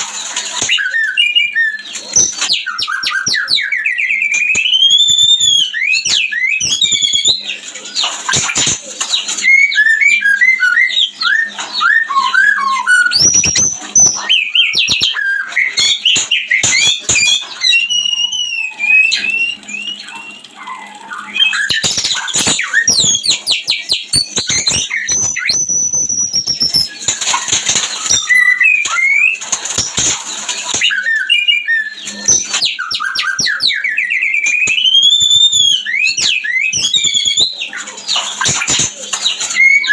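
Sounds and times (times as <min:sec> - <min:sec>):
bird singing whistled phrases: 0:00.6 - 0:30.0, 0:30.7 - 0:39.9.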